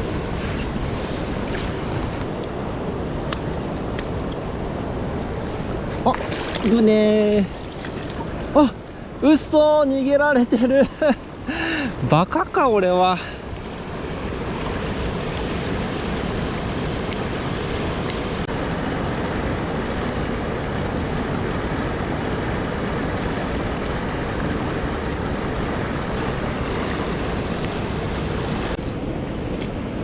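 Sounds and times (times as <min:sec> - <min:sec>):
water rushing over rocks: 0:03.5 - 0:10.8, 0:11.8 - 0:30.0.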